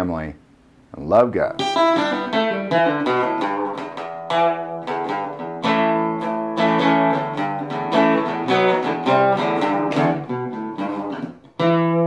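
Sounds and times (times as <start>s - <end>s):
guitar chords and plucked notes: 1.5s - 12.0s.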